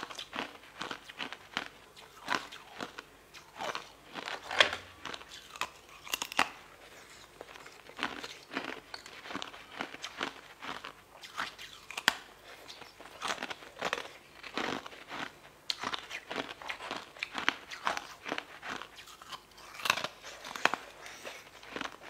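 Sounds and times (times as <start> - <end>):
chewing crunchy jelly candy: 0.0 - 22.0.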